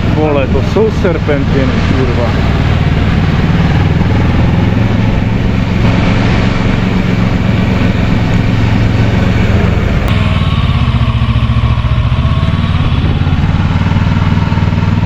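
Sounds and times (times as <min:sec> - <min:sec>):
motorcycle engine pulling: 0:00.0 - 0:15.0
wind and road noise: 0:00.0 - 0:15.0.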